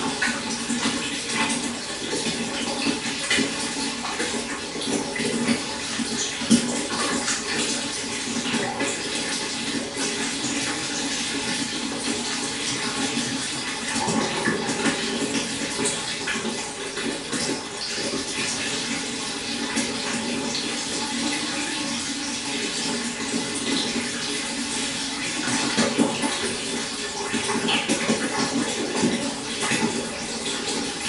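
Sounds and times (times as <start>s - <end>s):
water running and splashing: 0.0s - 31.0s.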